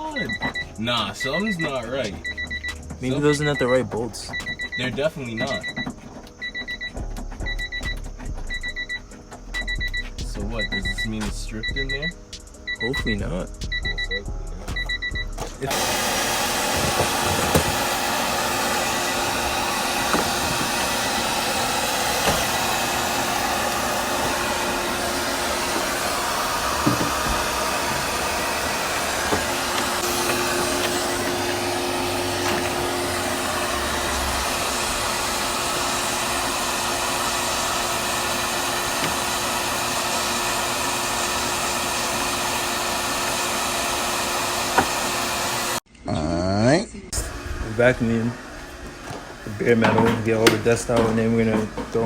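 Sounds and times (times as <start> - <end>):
vacuum cleaner running: 0.0 - 6.8, 15.3 - 45.9, 47.1 - 52.0.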